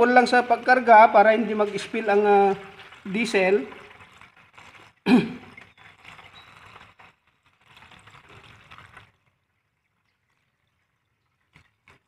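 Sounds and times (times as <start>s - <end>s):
fuel trickling into a tank: 0.0s - 12.0s.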